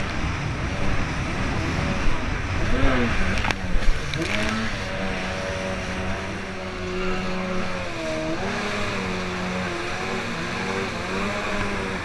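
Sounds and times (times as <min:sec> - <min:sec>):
jet ski engine running: 0:00.0 - 0:12.0
water spray and wind rushing: 0:00.0 - 0:12.0.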